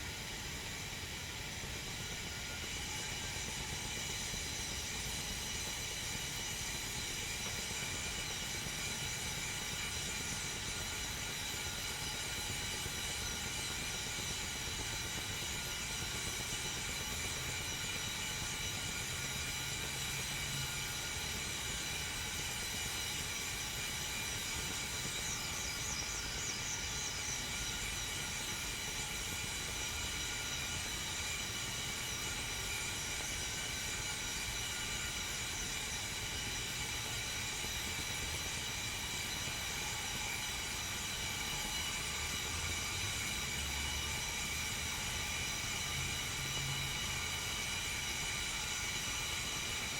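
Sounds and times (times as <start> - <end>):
kettle heating water hiss: 0.0 - 49.9.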